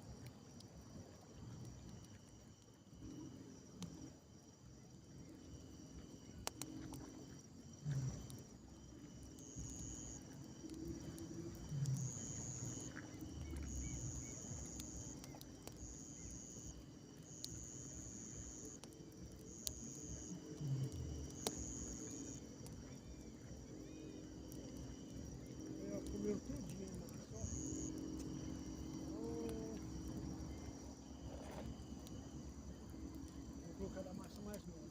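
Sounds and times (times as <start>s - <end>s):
night insects trilling: 0.0s - 34.9s.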